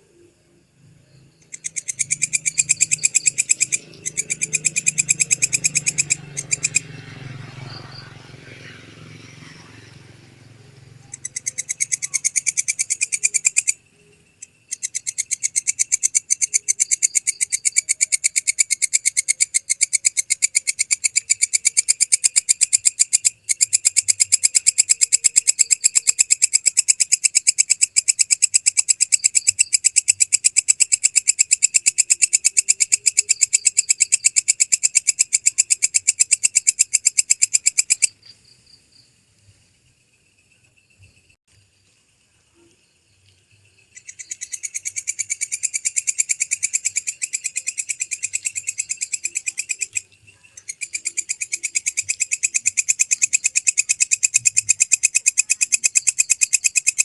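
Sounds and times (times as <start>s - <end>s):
katydid calling: 1.1s - 38.8s, 43.6s - 57.0s.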